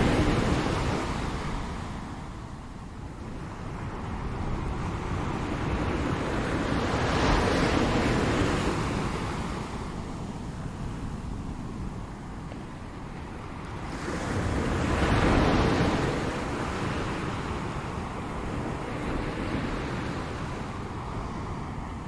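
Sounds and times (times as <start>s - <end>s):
ocean waves breaking: 3.2s - 22.0s.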